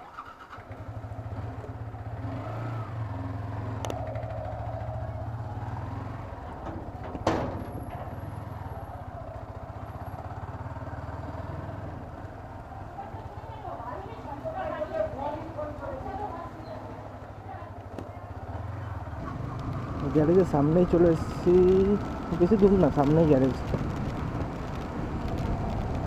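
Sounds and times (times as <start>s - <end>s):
motorcycle engine running: 0.1s - 26.0s.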